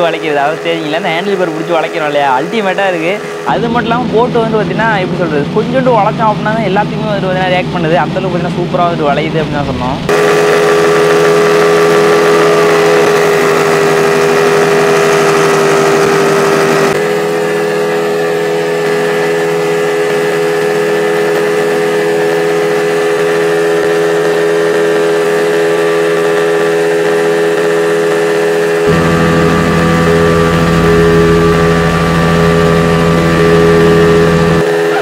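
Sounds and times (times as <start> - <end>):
motorcycle engine running: 0.0 - 8.8, 10.1 - 35.0.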